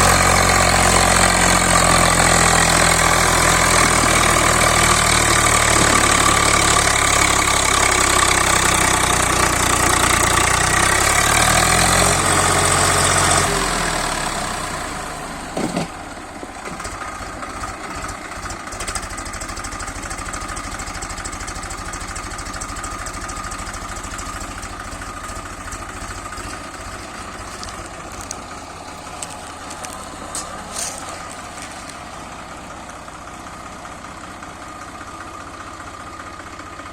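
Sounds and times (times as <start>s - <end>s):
tractor diesel engine: 0.0s - 36.9s.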